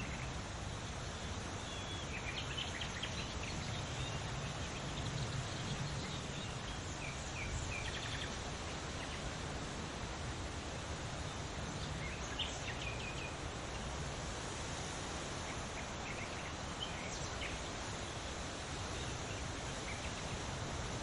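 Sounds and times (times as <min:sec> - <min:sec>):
leaves rustling in wind: 0:00.0 - 0:21.0
songbirds chirping: 0:00.0 - 0:21.0.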